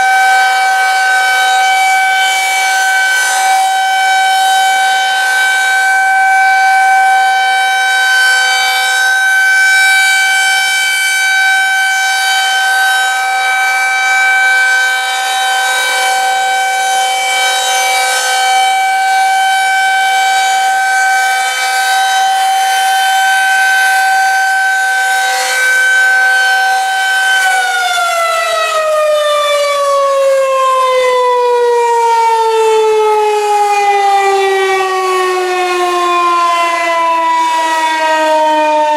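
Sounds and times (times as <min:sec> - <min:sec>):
rotating siren steady tone: 0:00.0 - 0:38.9.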